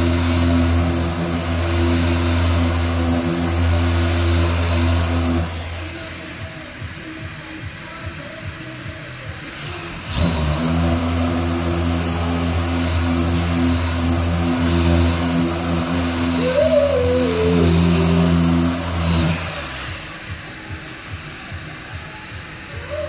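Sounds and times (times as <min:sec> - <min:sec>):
machine motor humming: 0:00.0 - 0:07.8, 0:09.5 - 0:23.0.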